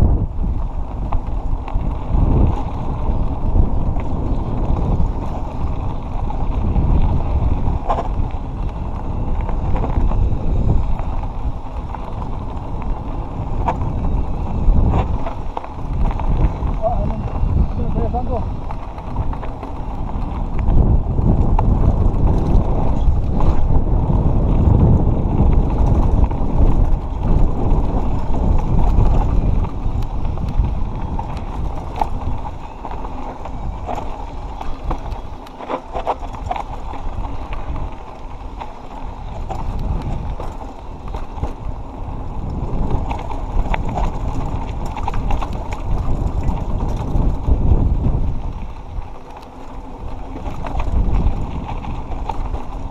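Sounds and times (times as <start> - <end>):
bike rattling and knocking: 0.0 - 52.9
bike tyres rumbling on dirt: 0.0 - 52.9
wind buffeting microphone: 0.0 - 52.9.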